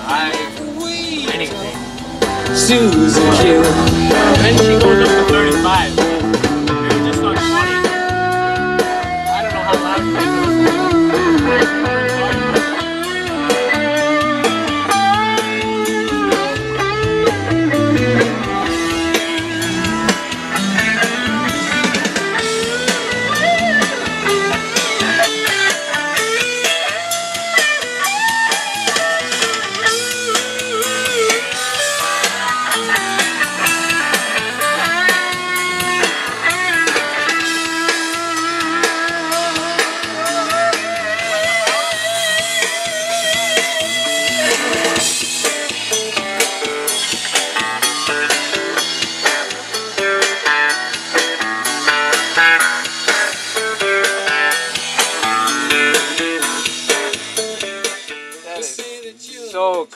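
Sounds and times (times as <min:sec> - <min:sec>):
rock song on car stereo: 0:00.0 - 0:59.9.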